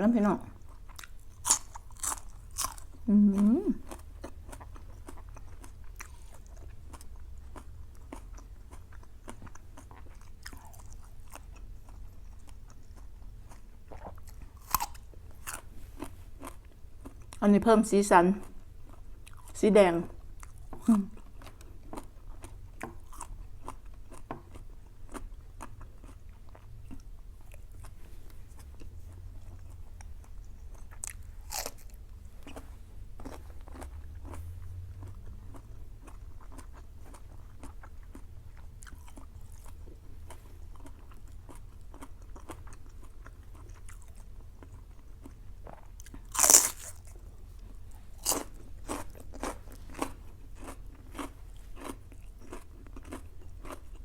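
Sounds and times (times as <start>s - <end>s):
food clicks and crunches: 0.6s - 3.1s, 3.8s - 17.4s, 20.4s - 32.6s, 33.2s - 54.0s.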